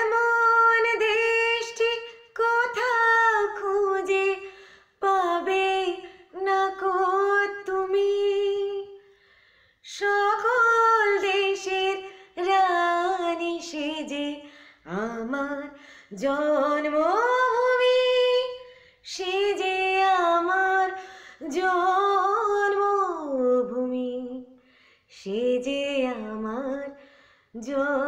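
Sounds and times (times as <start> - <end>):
woman singing unaccompanied: 0.0 - 9.0, 9.9 - 24.5, 25.1 - 27.0, 27.6 - 28.0.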